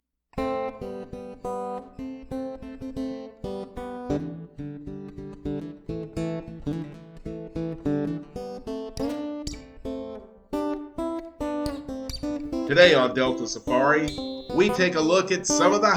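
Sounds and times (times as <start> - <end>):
acoustic guitar strumming: 0.4 - 15.9.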